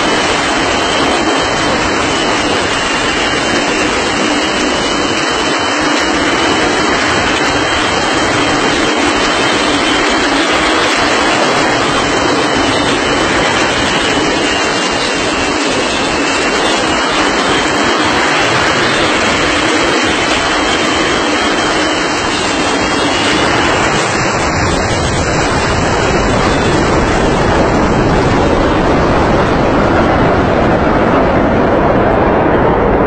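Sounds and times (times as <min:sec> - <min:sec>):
airplane engines roaring: 0:00.0 - 0:33.0.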